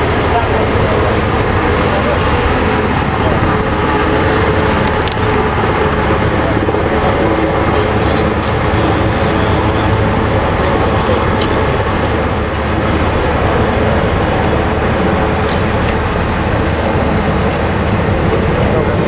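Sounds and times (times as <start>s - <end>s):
helicopter engines and rotor: 0.0s - 19.0s.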